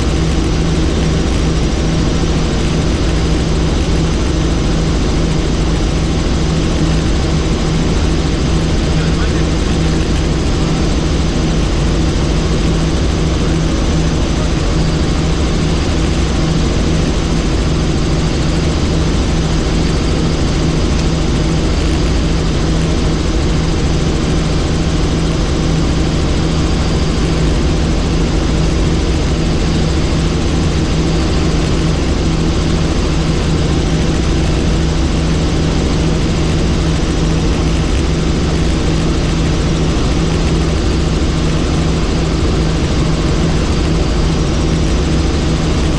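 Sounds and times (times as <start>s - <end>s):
helicopter rotor and engine drone: 0.0s - 45.9s.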